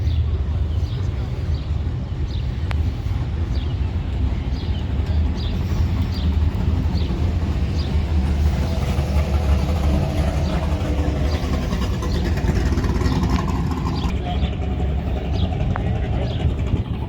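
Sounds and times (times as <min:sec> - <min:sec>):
car engine running: 0:00.4 - 0:17.0.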